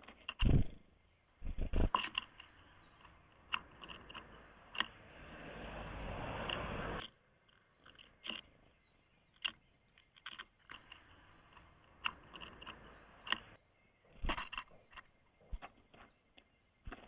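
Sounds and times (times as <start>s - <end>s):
birds pecking on plastic feeder: 0.0s - 17.0s.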